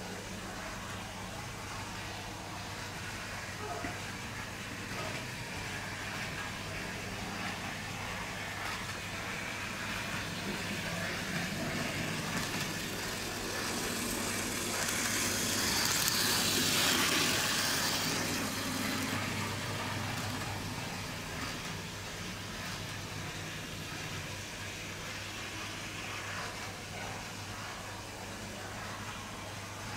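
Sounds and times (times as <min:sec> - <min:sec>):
model trolley motor and wheels on track: 0:00.0 - 0:29.9.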